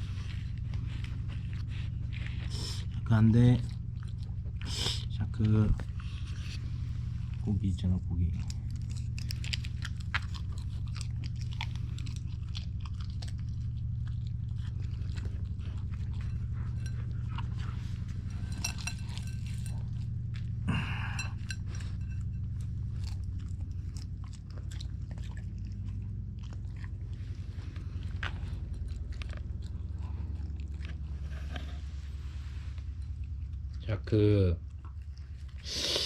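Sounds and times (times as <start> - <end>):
dog chewing and crunching food: 0.0 - 36.0
steady low hum: 0.0 - 36.0.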